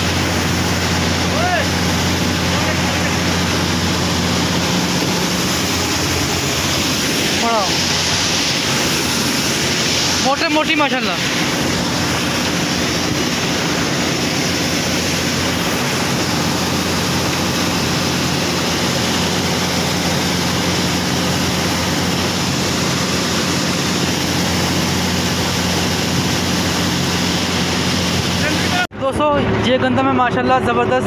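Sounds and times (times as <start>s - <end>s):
grain pouring into trailer: 0.0s - 28.8s
combine harvester engine drone: 0.0s - 31.0s.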